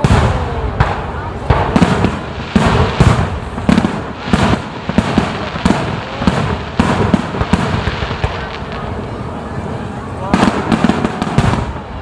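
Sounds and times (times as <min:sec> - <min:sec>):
firework shells booming: 0:00.0 - 0:12.0
fireworks crackling: 0:00.0 - 0:12.0.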